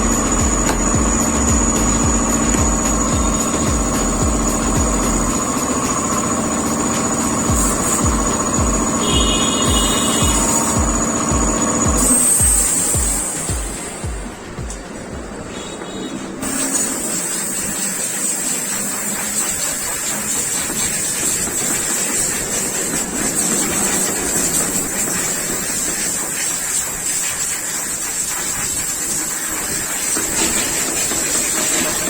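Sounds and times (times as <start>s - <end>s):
high-pressure spray hissing: 0.0s - 32.0s.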